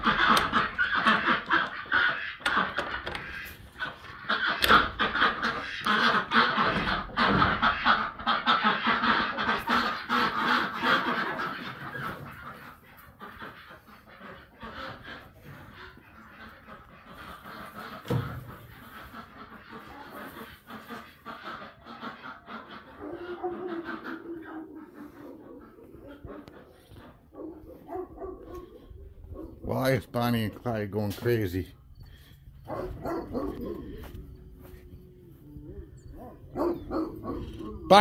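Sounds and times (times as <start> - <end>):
farm birds calling: 0.0 - 38.0.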